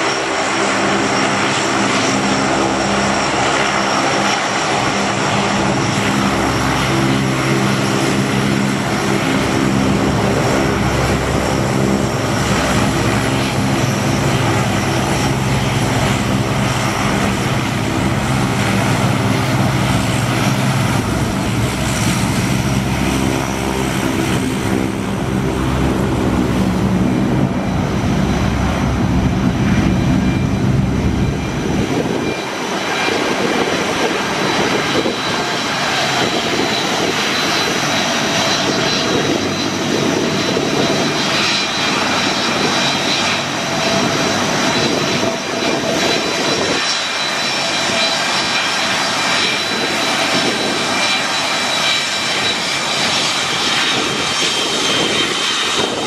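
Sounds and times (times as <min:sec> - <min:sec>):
propellers deep drone: 0:00.0 - 0:56.0.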